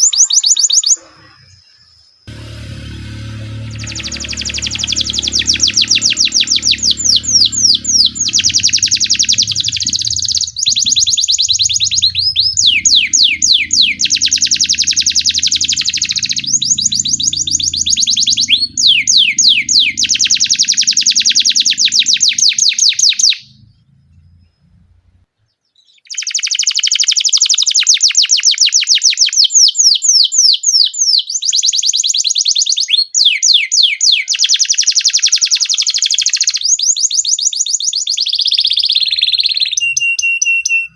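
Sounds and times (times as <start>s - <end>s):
canary singing trills: 0.0s - 25.1s, 25.8s - 40.9s.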